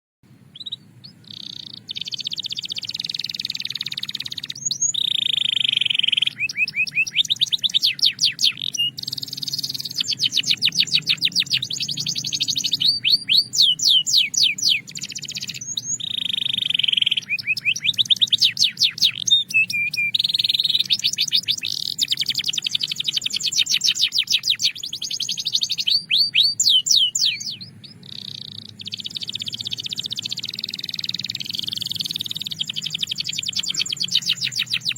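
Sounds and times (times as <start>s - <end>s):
canary singing rolls and trills: 0.3s - 34.9s.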